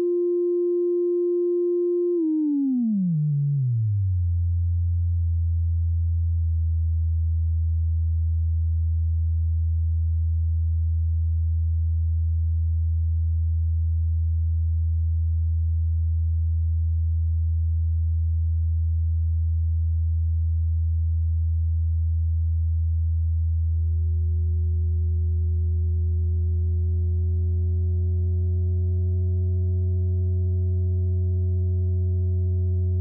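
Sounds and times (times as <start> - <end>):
low sine tone: 0.0 - 33.0.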